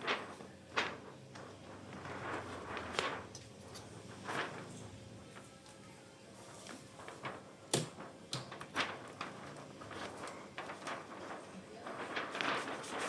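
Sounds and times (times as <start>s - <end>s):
rustling and scraping: 0.0s - 5.5s, 6.4s - 13.0s.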